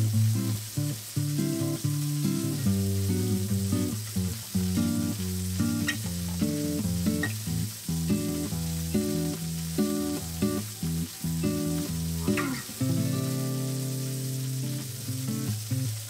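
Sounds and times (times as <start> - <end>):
background music melody: 0.0 - 15.9
steak sizzling in oil: 0.0 - 16.0.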